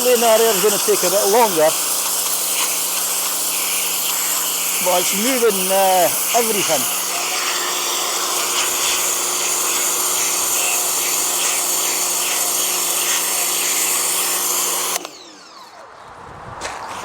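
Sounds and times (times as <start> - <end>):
water jet hissing on brick: 0.0 - 15.0
pressure washer motor humming: 0.0 - 15.8.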